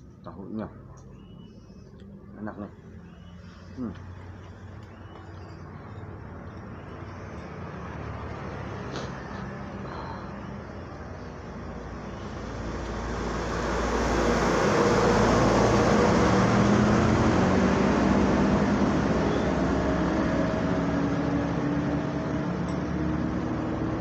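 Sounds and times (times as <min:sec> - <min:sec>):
vehicle passing on road: 0:00.0 - 0:24.0.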